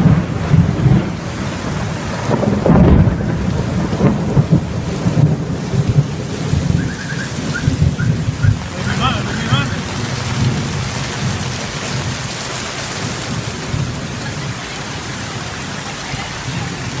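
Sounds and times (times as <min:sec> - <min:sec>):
torrential rain on pavement: 0:00.0 - 0:17.0.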